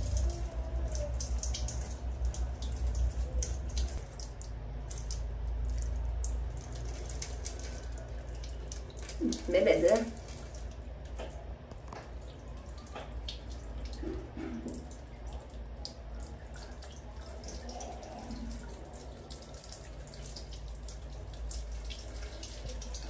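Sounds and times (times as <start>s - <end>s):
water running from tap: 0.0s - 23.0s
water splashing on tiled floor: 0.0s - 23.0s.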